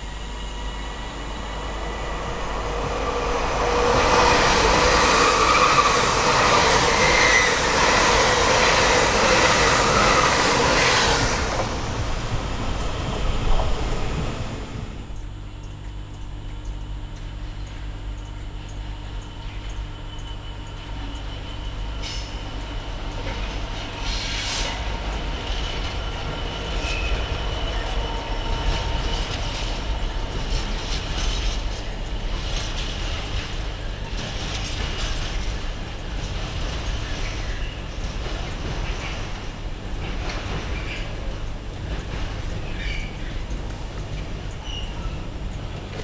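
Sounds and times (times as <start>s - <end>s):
rail and wheel noise: 0.0s - 46.0s
train engine hum: 0.0s - 46.0s.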